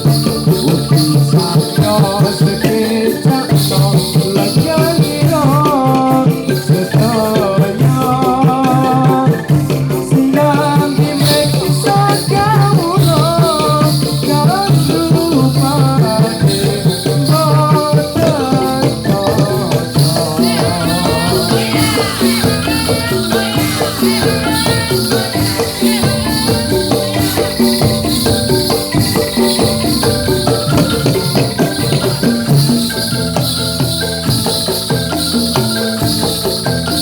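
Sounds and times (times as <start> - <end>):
jingling bells: 0.0 - 37.0
wavering melodic line: 0.0 - 37.0
dense drumming: 0.1 - 35.4.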